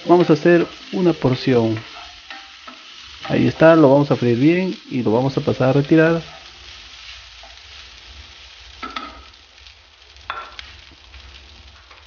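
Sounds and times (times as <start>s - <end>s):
spatula scraping a pan: 0.0s - 4.5s, 5.9s - 11.3s
chicken sizzling in a frying pan: 0.0s - 12.0s.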